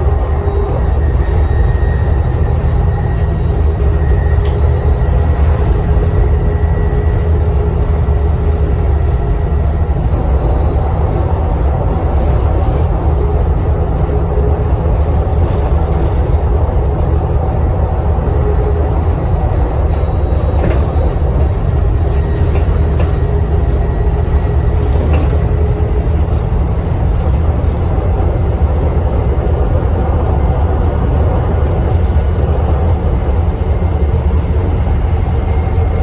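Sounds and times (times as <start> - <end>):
bus engine rumble: 0.0 - 36.0.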